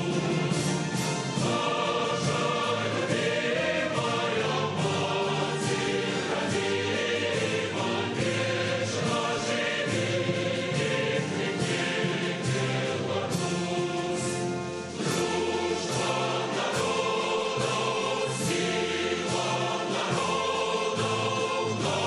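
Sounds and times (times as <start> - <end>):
large choir singing: 0.0 - 22.0.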